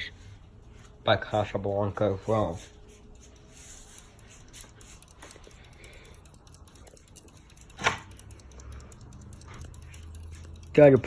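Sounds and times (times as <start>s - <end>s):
ceiling fan motor hum: 0.0s - 11.0s.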